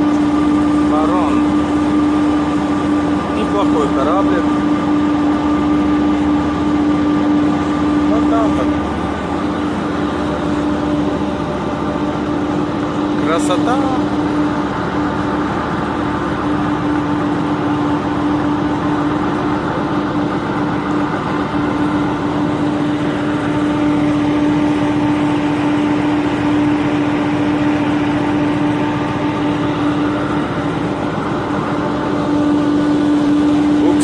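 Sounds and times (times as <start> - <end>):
boat engine droning hum: 0.0 - 34.0.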